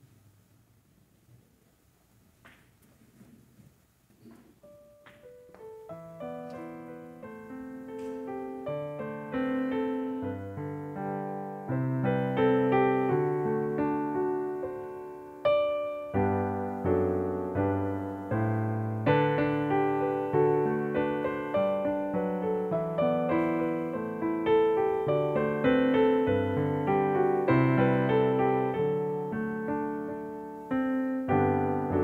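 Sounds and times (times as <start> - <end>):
slow piano piece: 2.3 - 32.0.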